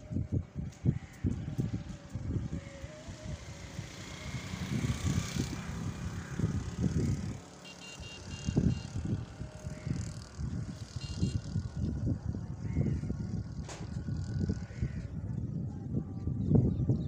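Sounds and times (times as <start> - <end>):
wind buffeting microphone: 0.0 - 7.6, 8.2 - 17.0
wind through trees: 0.0 - 17.0.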